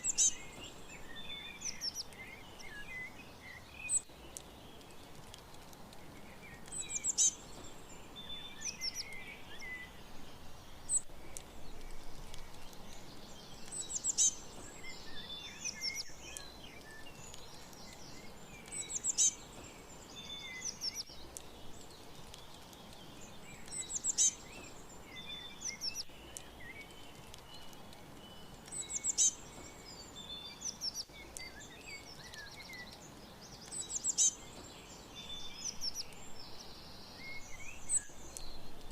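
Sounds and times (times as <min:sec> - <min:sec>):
faint steady background hiss: 0:00.0 - 0:38.9
songbirds chirping and twittering: 0:00.0 - 0:38.9.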